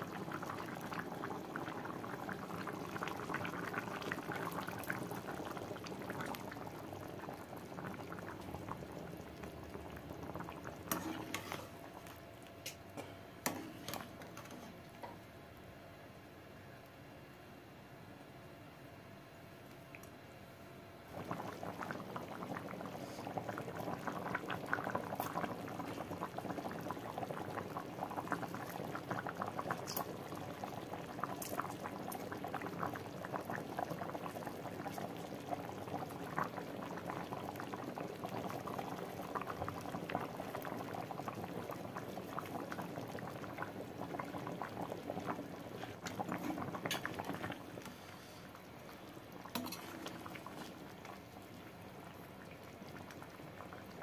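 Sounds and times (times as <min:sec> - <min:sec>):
gravy boiling with small pops: 0:00.0 - 0:15.4, 0:19.6 - 0:20.2, 0:21.1 - 0:54.0.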